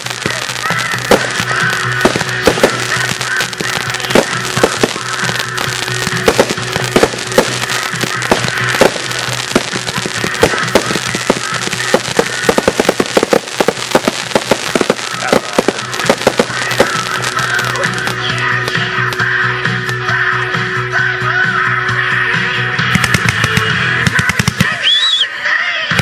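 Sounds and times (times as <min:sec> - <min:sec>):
fireworks popping and crackling: 0:00.0 - 0:20.3, 0:22.8 - 0:25.2
music playing: 0:00.0 - 0:26.0.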